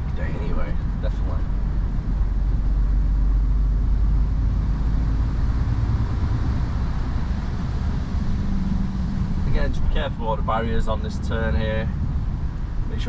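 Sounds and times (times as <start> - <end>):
diesel engine drone: 0.0 - 13.0
road and tyre noise: 0.0 - 13.0.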